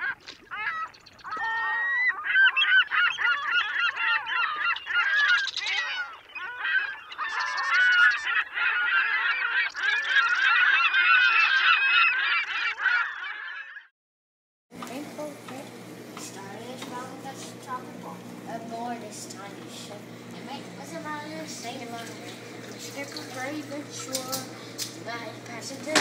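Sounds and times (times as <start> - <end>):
waterfowl flock calling: 0.0 - 13.9, 14.8 - 26.0.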